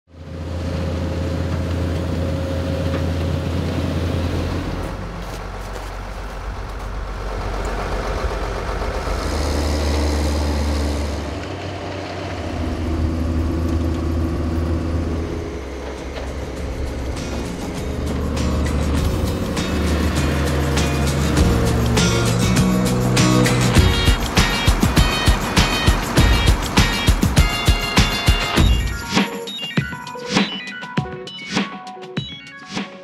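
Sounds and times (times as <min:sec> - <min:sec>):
diesel engine droning: 0:00.1 - 0:29.1.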